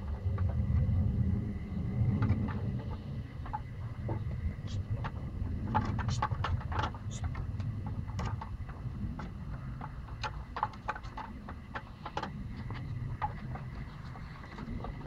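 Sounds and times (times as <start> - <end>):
wind rumble on microphone: 0.0 - 15.0
paws scratching wooden fence: 2.4 - 15.0.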